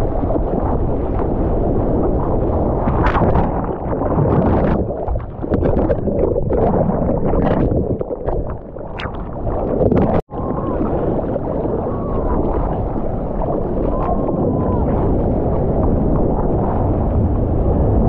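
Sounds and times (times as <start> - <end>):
ocean water splashing on microphone: 0.0 - 18.0.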